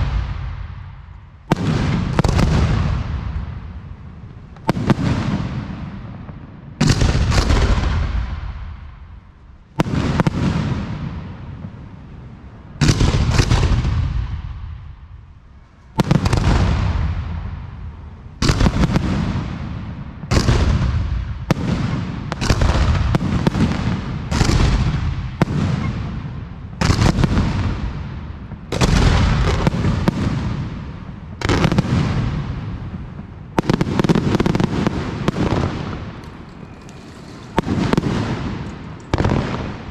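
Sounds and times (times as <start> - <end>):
fireworks bursting with bangs: 0.0 - 15.1, 15.9 - 39.9.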